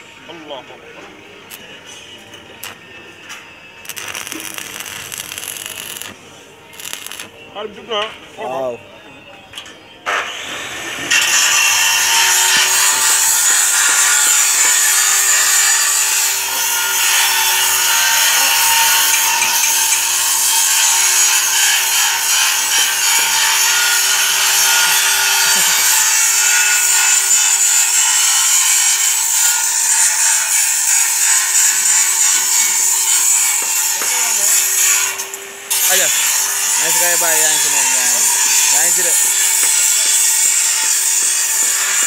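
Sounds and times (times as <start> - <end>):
power tool rasping metal: 3.8 - 7.3, 10.4 - 42.0.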